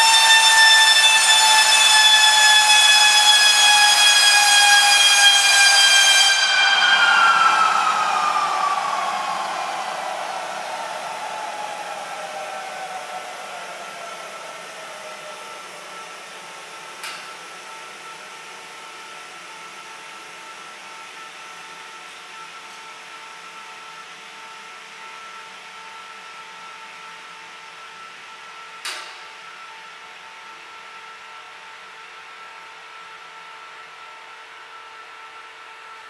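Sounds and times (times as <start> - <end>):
turbojet engine whine: 0.0 - 29.3.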